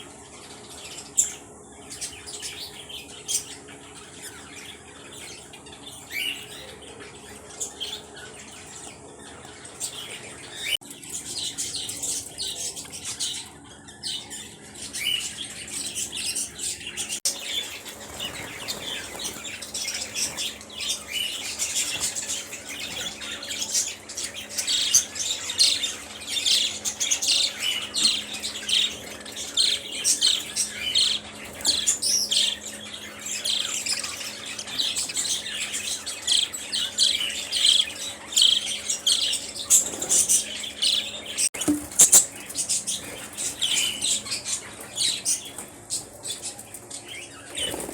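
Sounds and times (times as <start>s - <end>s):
flock of birds chirping and squawking: 0.0s - 47.9s.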